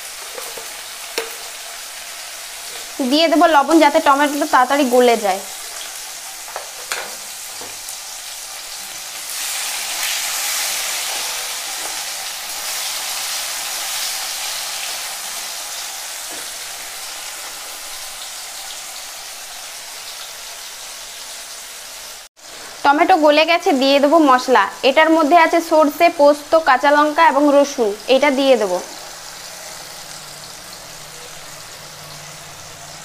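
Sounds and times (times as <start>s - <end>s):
vegetables sizzling in hot oil: 0.0s - 33.0s.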